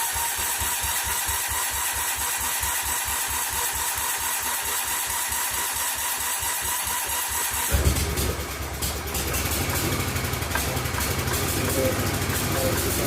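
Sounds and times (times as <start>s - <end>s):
engine cranking chug: 0.0s - 13.0s
starter motor whine: 0.0s - 13.0s.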